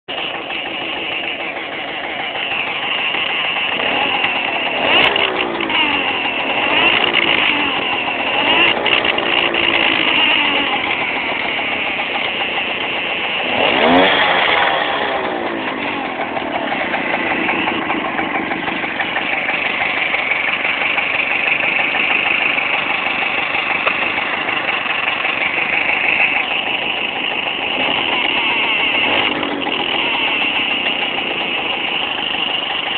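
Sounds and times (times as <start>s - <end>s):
electric horn buzzing: 0.1s - 21.6s, 22.3s - 32.4s
two-stroke moped engine running: 0.1s - 32.9s.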